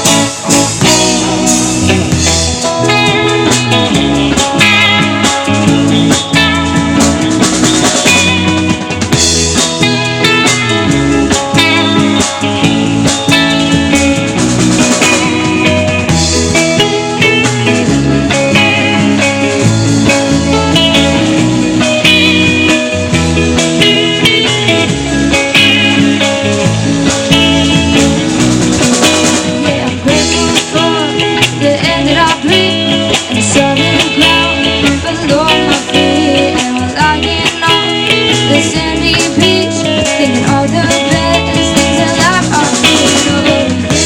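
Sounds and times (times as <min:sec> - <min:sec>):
bass line: 0:00.0 - 0:44.0
drums: 0:00.0 - 0:44.0
lead guitar: 0:00.0 - 0:44.0.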